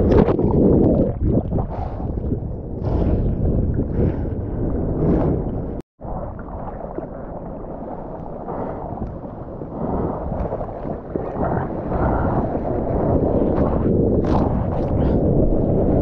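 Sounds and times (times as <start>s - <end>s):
ocean water sloshing: 0.0s - 16.0s
wind on microphone: 0.0s - 16.0s.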